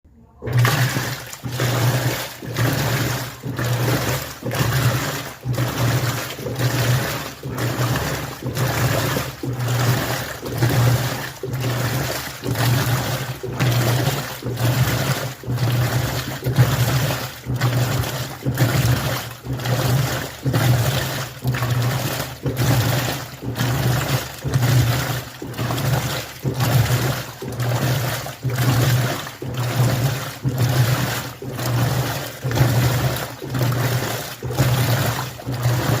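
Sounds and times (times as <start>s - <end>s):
washing machine motor hum: 0.0s - 36.0s
water sloshing: 0.4s - 36.0s.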